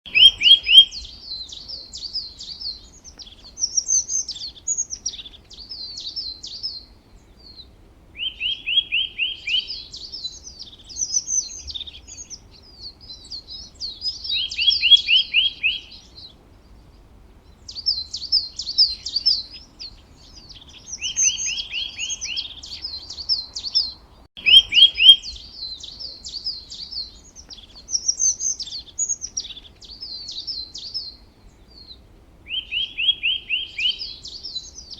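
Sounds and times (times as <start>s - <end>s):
songbird singing: 0.1s - 34.9s.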